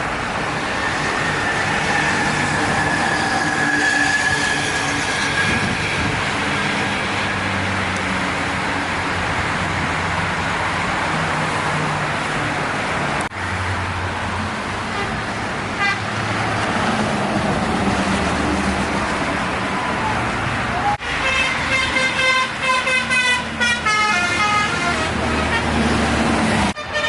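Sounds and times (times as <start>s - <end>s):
tyre and wind roar: 0.0s - 21.7s
heavy vehicle engines: 0.0s - 27.0s.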